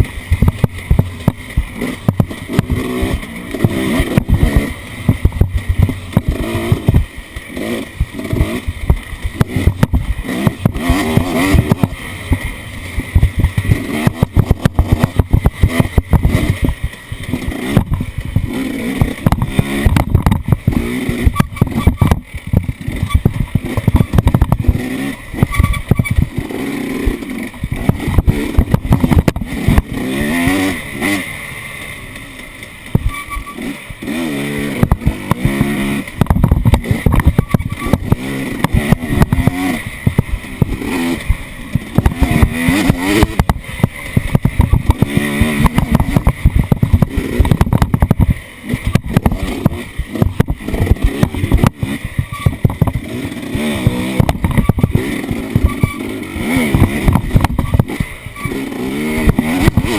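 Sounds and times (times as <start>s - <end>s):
knocks and rattles: 0.0s - 30.8s, 32.4s - 59.9s
off-road vehicle engine revving: 0.0s - 59.9s.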